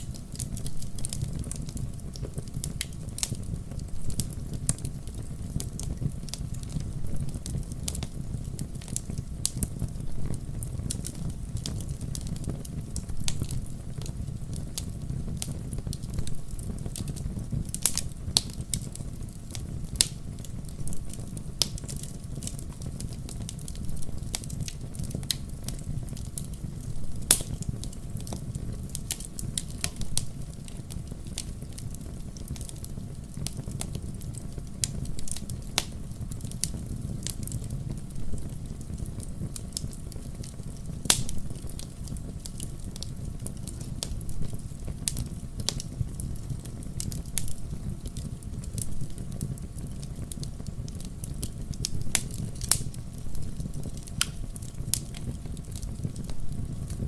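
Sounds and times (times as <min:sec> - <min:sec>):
campfire crackling and popping: 0:00.0 - 0:57.0
low rumble of flames: 0:00.0 - 0:57.0.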